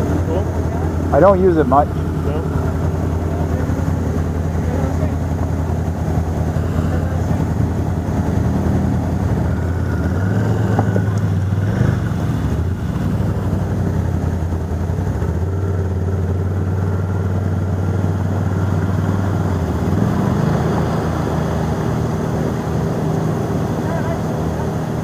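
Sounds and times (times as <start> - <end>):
atv engines idling: 0.0 - 25.0.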